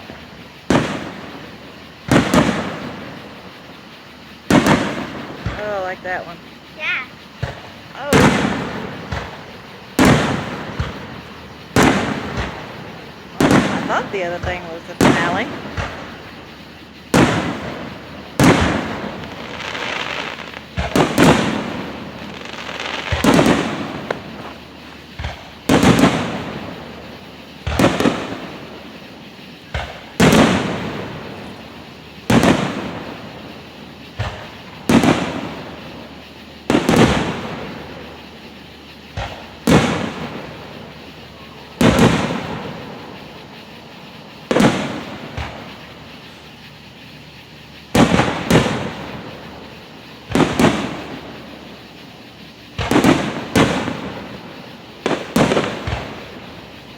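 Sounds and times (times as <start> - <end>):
firework shells bursting: 0.0 - 56.9.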